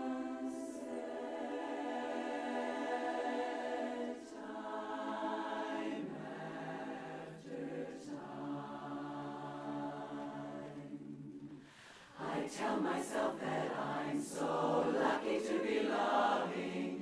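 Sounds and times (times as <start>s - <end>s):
women's chorus singing a cappella: 0.0s - 17.0s.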